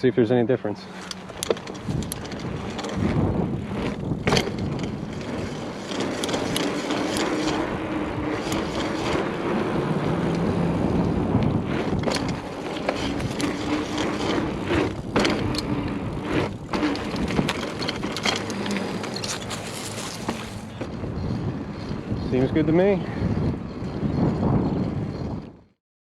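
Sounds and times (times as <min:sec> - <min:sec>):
bicycle drivetrain running: 0:00.3 - 0:25.8
bicycle tyres rolling: 0:00.4 - 0:25.6
bicycle clicks: 0:00.9 - 0:25.6.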